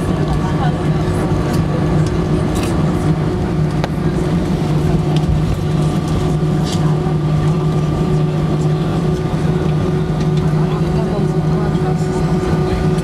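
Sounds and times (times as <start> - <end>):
cabin air system drone: 0.0 - 13.0
jet engines idling: 0.0 - 13.0.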